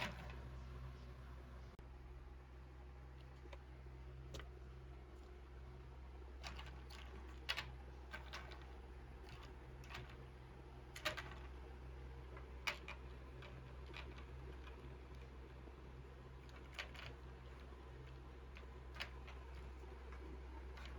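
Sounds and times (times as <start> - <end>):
faint low hum: 0.0 - 20.9.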